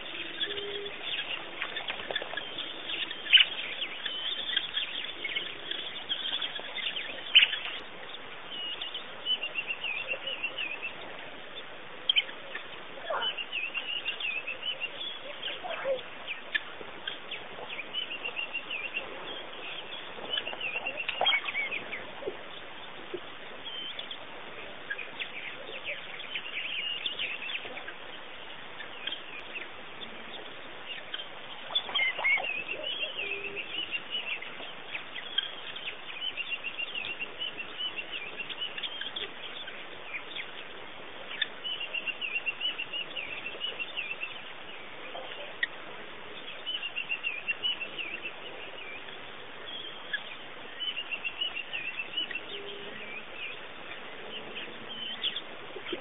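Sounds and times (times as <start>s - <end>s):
birds chirping and calling: 0.0s - 56.0s
steady background hiss: 0.0s - 56.0s.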